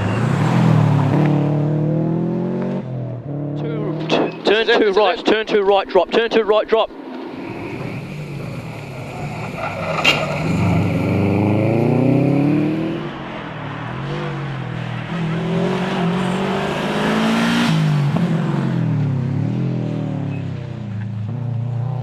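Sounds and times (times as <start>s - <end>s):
turbocharged car engine revving: 0.0s - 5.2s, 7.0s - 22.0s.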